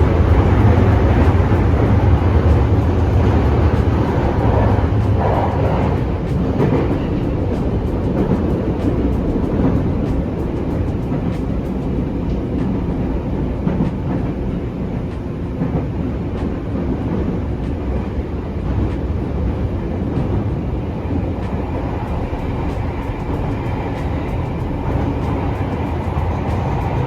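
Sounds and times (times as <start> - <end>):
train carriage rumbling: 0.0 - 27.0.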